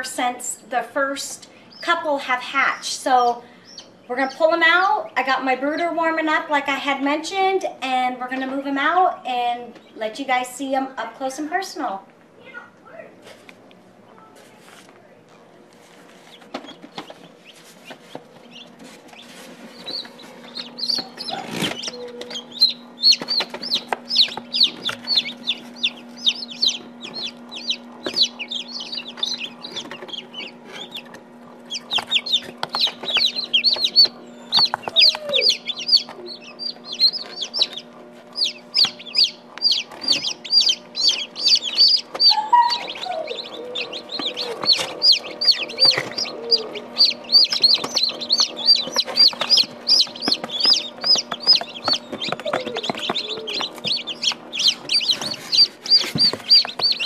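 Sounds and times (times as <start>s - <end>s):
steady low hum: 0.0s - 57.0s
chicks peeping: 1.3s - 6.2s, 16.1s - 57.0s.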